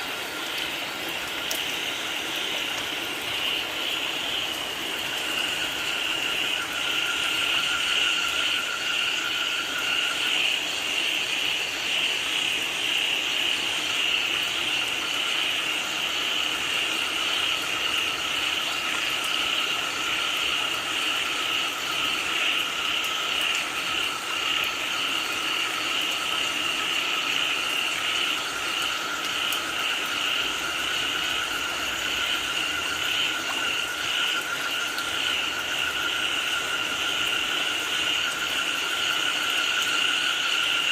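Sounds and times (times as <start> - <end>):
frogs calling: 0.0 - 40.9
rain falling: 0.0 - 40.9.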